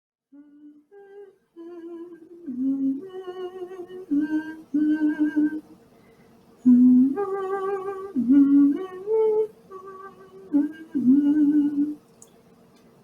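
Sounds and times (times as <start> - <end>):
woman humming: 0.4 - 5.6, 6.7 - 12.0.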